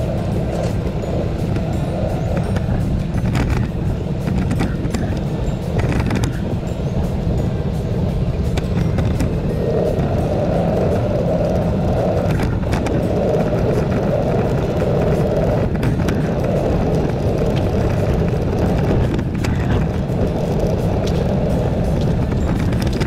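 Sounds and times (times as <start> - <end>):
tyre rumble on paved path: 0.0 - 23.0
wind buffeting microphone: 0.0 - 23.0.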